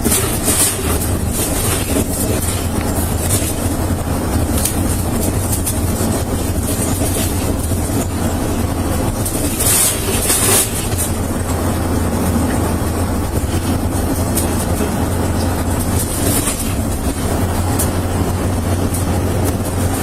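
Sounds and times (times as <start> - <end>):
moving vehicle rumble: 0.0 - 20.0.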